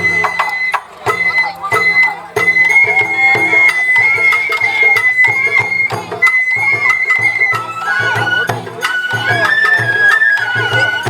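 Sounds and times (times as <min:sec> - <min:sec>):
bamboo flute: 0:00.0 - 0:11.0
drum strikes: 0:00.0 - 0:11.0.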